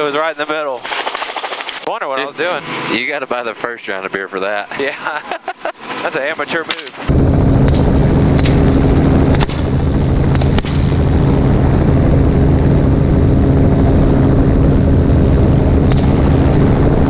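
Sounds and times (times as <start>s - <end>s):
helicopter rotor and engine drone: 0.0s - 17.0s.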